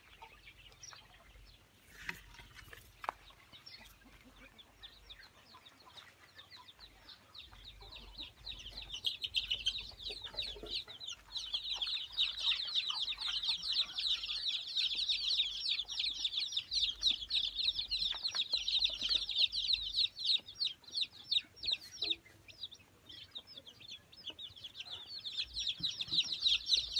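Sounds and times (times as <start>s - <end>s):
baby chicks peeping: 0.0s - 26.9s.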